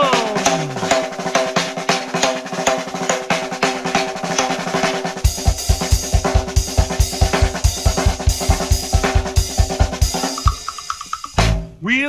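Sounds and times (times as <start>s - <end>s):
drum kit beat: 0.0s - 11.8s.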